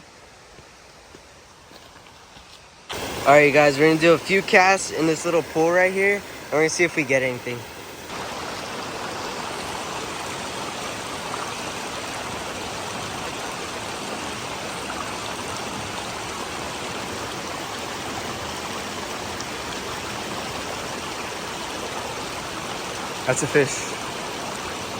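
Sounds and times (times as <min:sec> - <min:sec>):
creek water flowing: 0:00.0 - 0:24.9.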